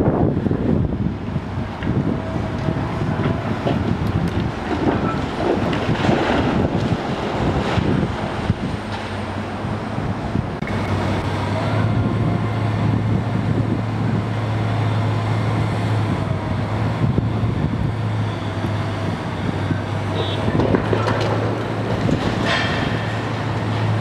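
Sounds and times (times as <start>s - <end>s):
city traffic rumble: 0.0s - 24.0s
diesel excavator engine droning: 0.0s - 24.0s.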